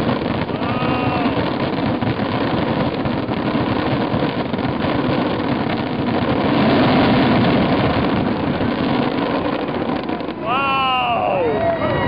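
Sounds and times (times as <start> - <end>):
fireworks barrage: 0.0 - 12.0.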